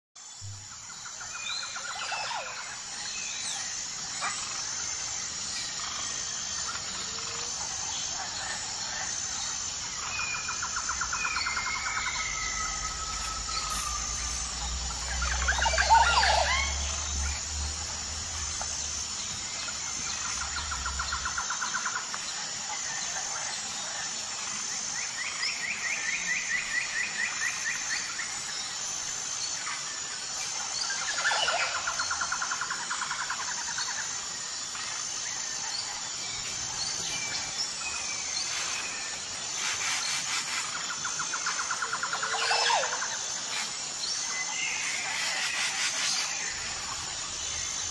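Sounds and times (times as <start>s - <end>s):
steady high-pitched drone: 0.2s - 47.9s
birds chirping and trilling: 0.3s - 47.9s.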